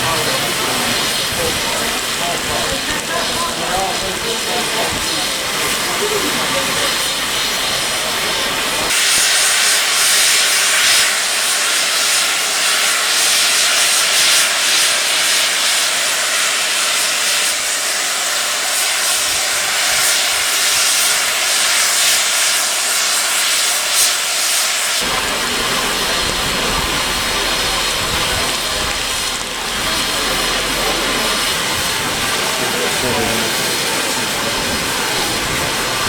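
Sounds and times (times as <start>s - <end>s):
steam locomotive blowing off steam: 0.0s - 36.0s.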